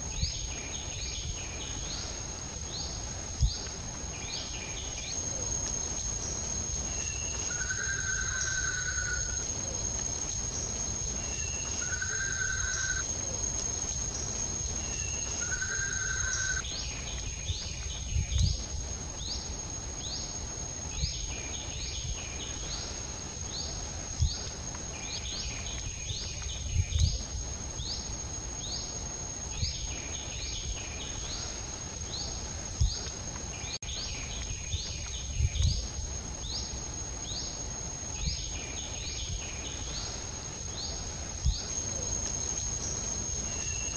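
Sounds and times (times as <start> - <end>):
insect drone: 0.0 - 43.9.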